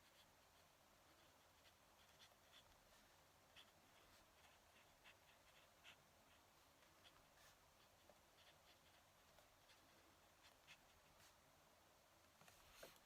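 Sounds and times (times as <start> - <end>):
pen nib scratching on paper: 0.0 - 11.4.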